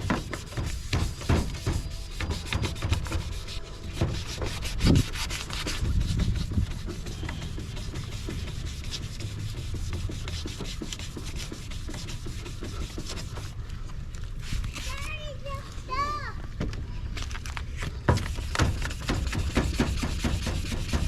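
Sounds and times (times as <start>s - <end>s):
sandpaper scraping plastic: 0.0s - 13.7s, 14.3s - 15.8s, 17.3s - 21.0s.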